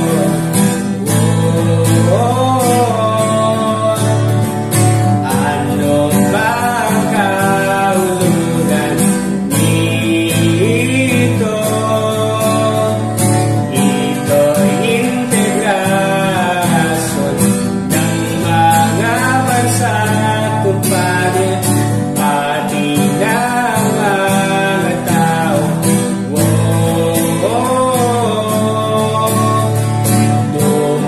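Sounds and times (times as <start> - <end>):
man singing: 0.0 - 31.0
strummed acoustic guitar: 0.0 - 31.0.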